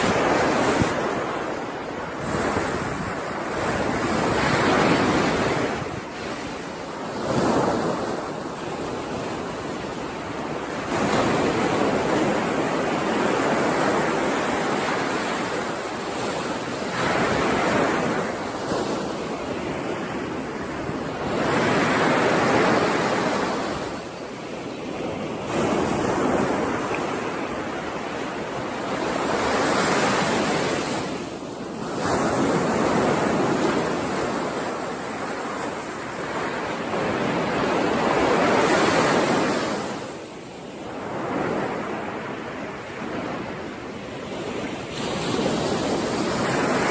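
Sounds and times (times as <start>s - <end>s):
ocean waves breaking on shore: 0.0s - 46.9s.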